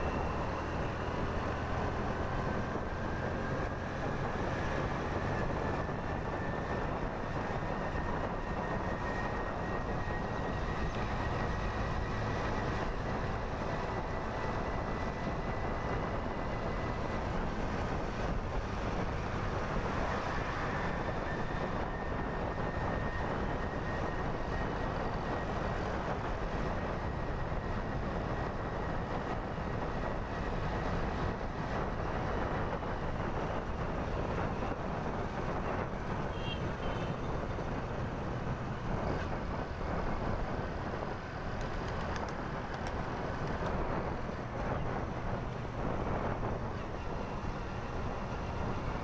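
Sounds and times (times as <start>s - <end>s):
motorbike road noise: 0.0s - 49.0s
wind on microphone: 2.4s - 49.0s.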